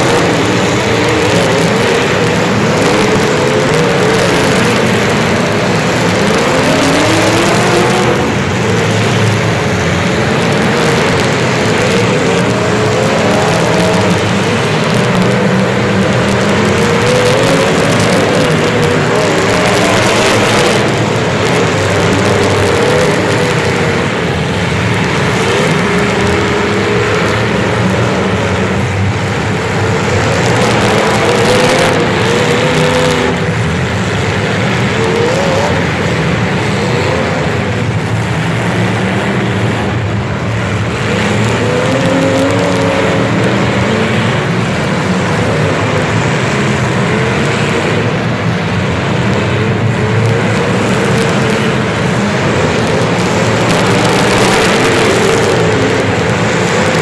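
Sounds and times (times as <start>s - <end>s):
engines revving: 0.0s - 57.0s
steady noisy rush: 0.0s - 57.0s.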